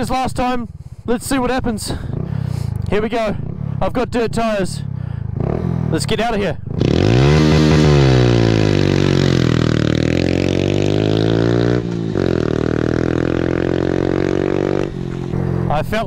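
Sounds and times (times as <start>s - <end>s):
motorcycle engine at full throttle: 1.3s - 16.0s.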